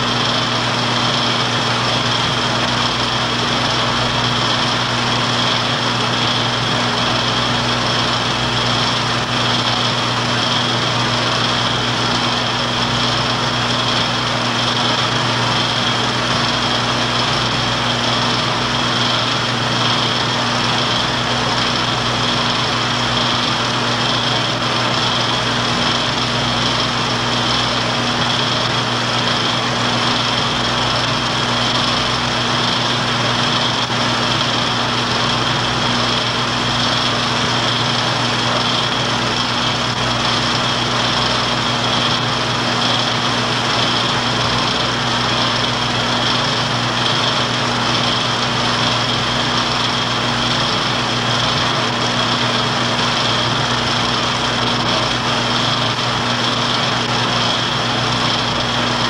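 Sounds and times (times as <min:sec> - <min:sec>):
projector mechanical whir: 0:00.0 - 0:59.0.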